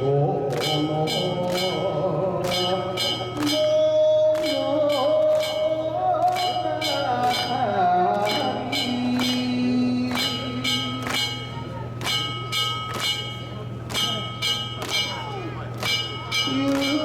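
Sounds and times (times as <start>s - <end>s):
wavering held melody: 0.0s - 17.0s.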